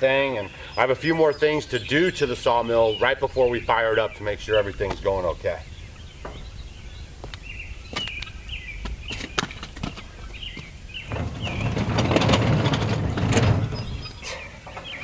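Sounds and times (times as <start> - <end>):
small birds chirping: 0.0 - 15.0
low rumbling noise: 1.6 - 14.5.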